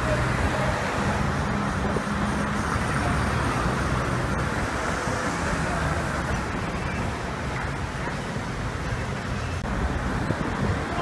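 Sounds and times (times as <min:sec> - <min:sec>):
constant rushing noise: 0:00.0 - 0:11.0
vehicle engine drone: 0:00.0 - 0:11.0.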